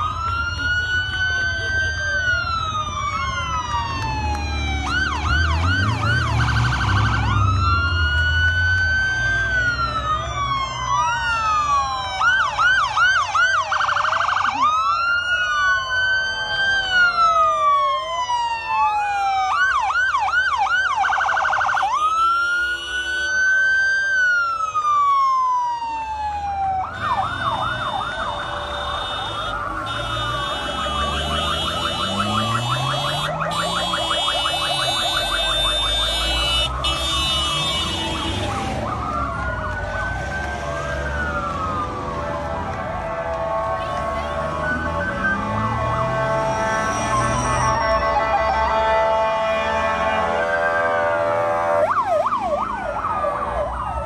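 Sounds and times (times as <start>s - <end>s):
emergency sirens wailing: 0.0s - 54.0s
vehicle engines rumbling: 0.0s - 54.0s.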